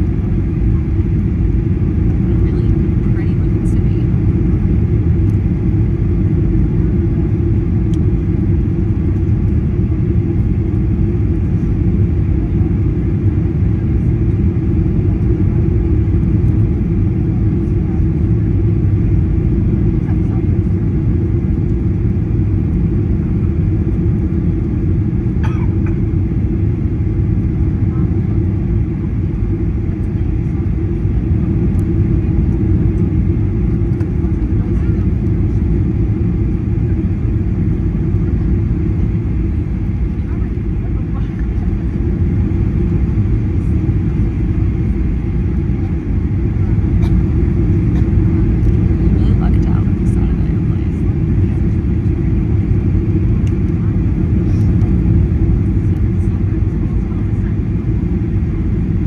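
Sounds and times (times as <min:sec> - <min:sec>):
jet engine roar in cabin: 0:00.0 - 0:59.0.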